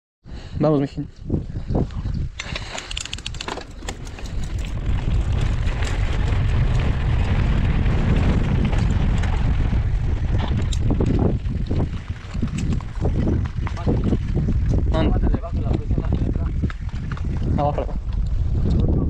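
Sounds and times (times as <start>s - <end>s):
wind buffeting microphone: 0.3s - 19.0s
bike rattling and clicking: 2.2s - 19.0s
bike tyres rolling on dirt: 2.5s - 19.0s.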